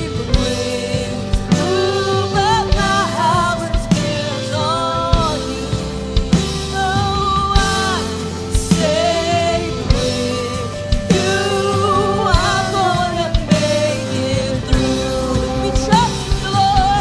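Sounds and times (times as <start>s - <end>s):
drum beat: 0.0s - 17.0s
people singing: 0.0s - 17.0s
worship band playing: 0.0s - 17.0s.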